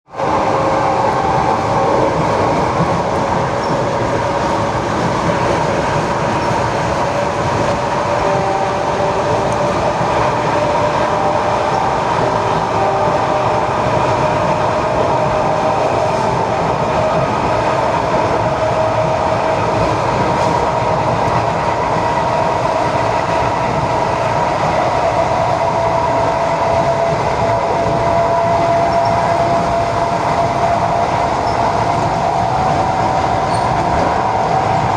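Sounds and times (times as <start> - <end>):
rail rumble: 0.1 - 34.9.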